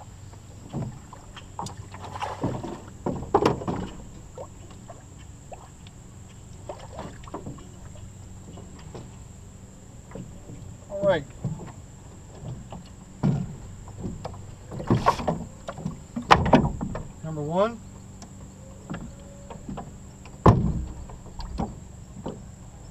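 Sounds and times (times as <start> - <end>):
knocks and scuffs in boat: 0.0 - 22.9.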